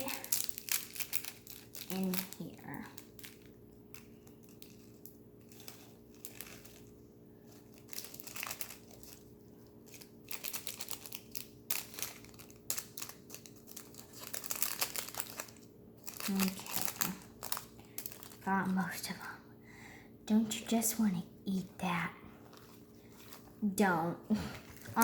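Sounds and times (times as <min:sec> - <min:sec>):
plastic packet crinkling: 0:00.0 - 0:18.5, 0:22.4 - 0:23.6, 0:24.6 - 0:25.0.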